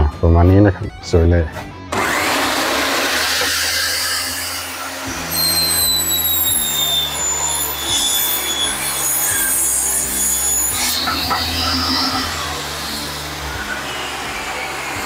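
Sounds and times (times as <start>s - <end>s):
table saw motor whining: 1.9s - 15.0s.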